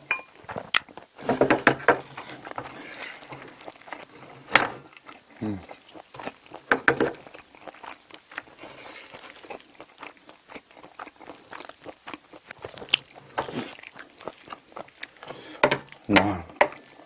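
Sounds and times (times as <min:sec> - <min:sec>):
wet chewing smacks and clicks: 0:02.4 - 0:04.3, 0:04.9 - 0:17.0.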